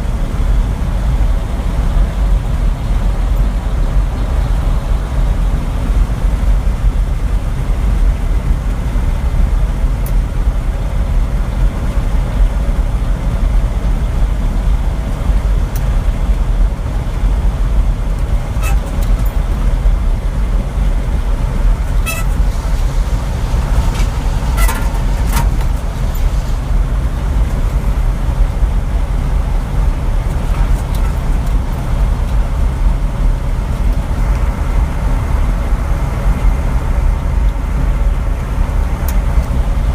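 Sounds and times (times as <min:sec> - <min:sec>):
truck driving rumble: 0:00.0 - 0:39.9.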